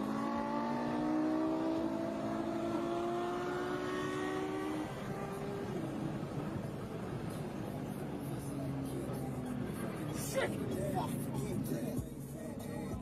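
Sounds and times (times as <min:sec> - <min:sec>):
car engines accelerating: 0:00.0 - 0:13.0.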